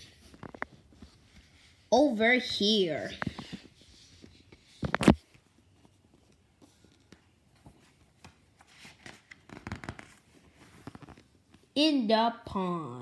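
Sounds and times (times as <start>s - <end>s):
book pages rustling: 0.0s - 11.8s.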